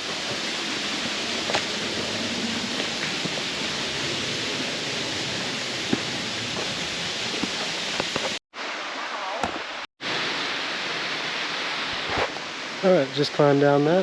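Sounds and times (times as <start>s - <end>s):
waterfall rushing water: 0.0s - 14.0s.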